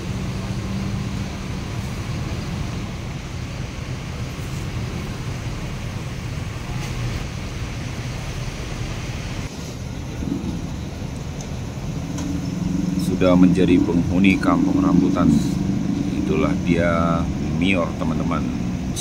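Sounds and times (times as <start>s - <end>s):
diesel coach engine running: 0.0s - 19.0s
traffic noise: 0.0s - 19.0s.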